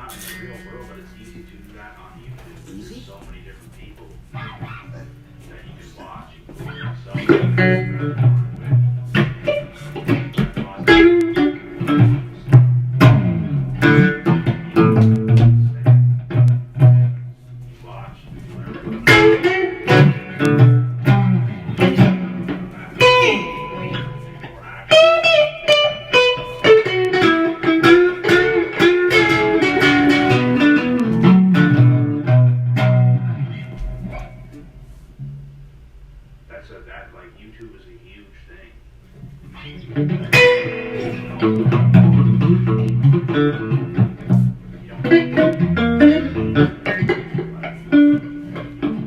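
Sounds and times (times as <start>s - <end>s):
guitar playing blues riff: 0.0s - 2.4s, 4.2s - 35.6s, 39.2s - 49.0s.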